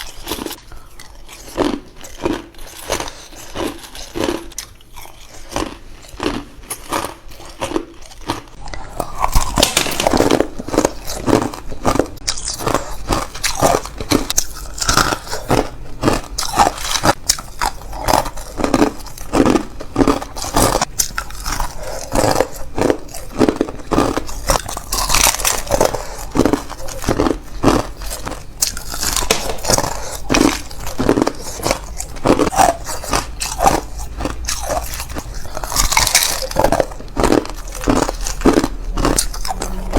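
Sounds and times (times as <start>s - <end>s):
person crunching hard ice: 0.0s - 39.9s.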